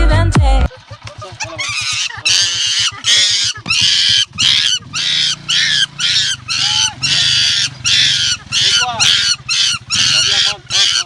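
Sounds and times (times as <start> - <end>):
animal squealing: 1.1 - 11.0.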